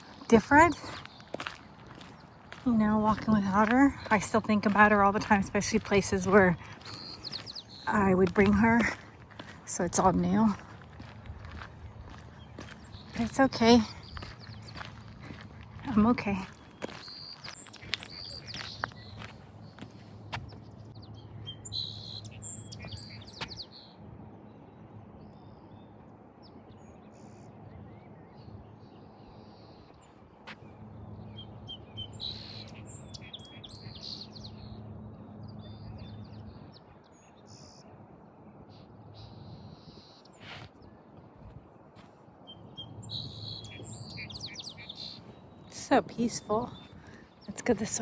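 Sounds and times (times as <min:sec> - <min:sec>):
small birds chirping: 0:00.0 - 0:24.0, 0:24.6 - 0:37.9, 0:38.7 - 0:48.0.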